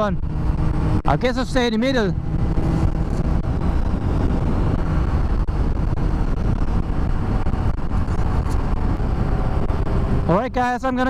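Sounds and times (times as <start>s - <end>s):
motorcycle engine running: 0.0s - 11.0s
road noise: 0.0s - 11.0s
wind rush on microphone: 0.0s - 11.0s.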